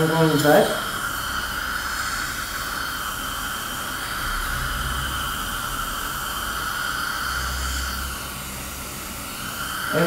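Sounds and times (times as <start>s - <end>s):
suction unit hissing: 0.0s - 10.0s.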